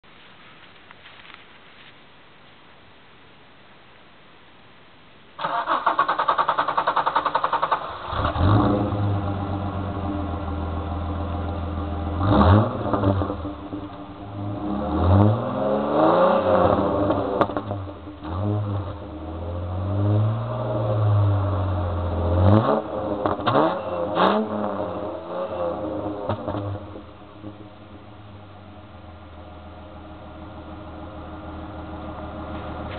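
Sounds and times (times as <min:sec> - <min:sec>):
car engine starting and revving: 0:05.4 - 0:32.9.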